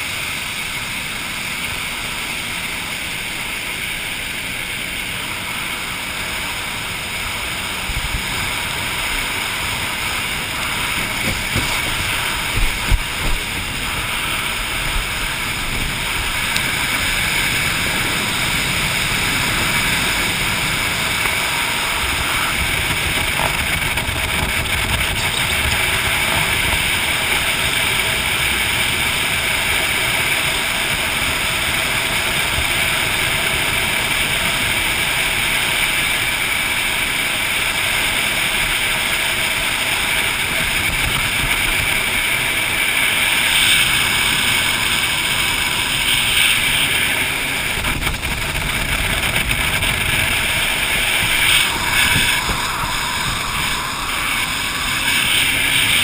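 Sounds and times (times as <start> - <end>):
boat motor running: 0.0 - 56.0
wind on microphone: 6.7 - 56.0.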